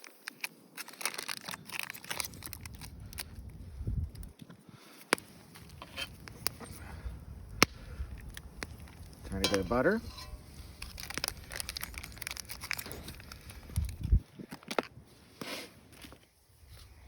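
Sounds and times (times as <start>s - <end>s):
camp cooking gear clicks and rustles: 0.0s - 17.0s.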